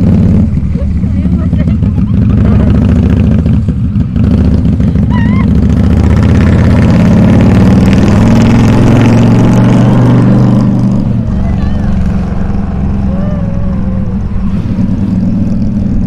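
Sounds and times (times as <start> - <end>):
motorcycle exhaust revving: 0.0 - 16.0.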